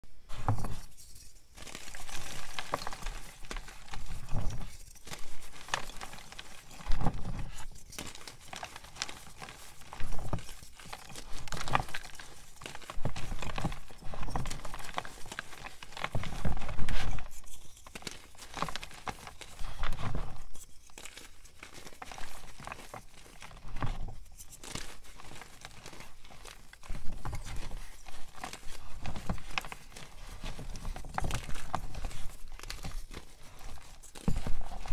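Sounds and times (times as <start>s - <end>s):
chalk crunching and crumbling: 0.2s - 34.9s.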